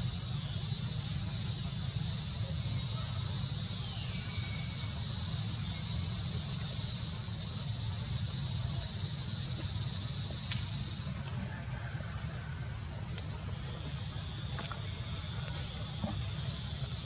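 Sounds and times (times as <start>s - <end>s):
insect chorus buzzing: 0.0s - 11.9s, 13.6s - 17.0s
low continuous rumble: 0.0s - 17.0s.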